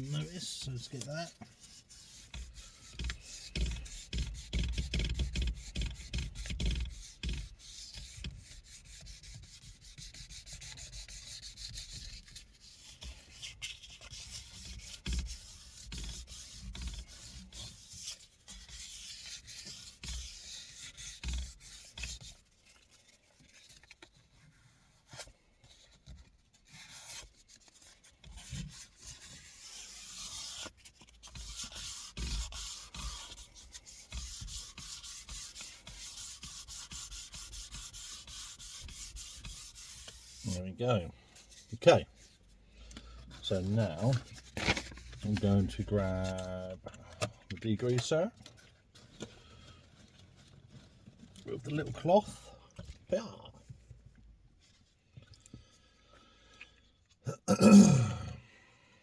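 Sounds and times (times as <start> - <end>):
sandpaper scraping leather: 0.0 - 42.6, 43.2 - 53.5.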